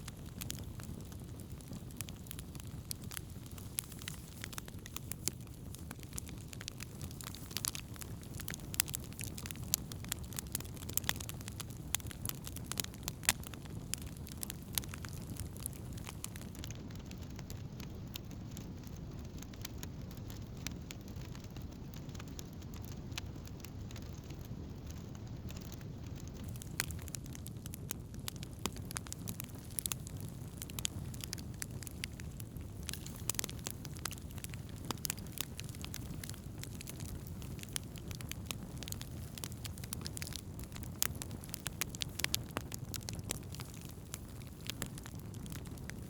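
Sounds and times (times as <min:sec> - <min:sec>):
burning wood crackling and popping: 0:00.0 - 0:46.0
campfire flames rushing: 0:00.0 - 0:46.0.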